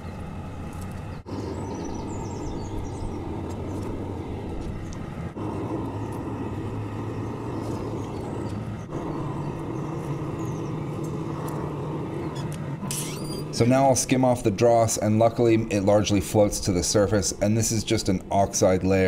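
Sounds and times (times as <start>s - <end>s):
kiln rushing noise: 0.0s - 19.0s
low hum: 0.0s - 19.0s.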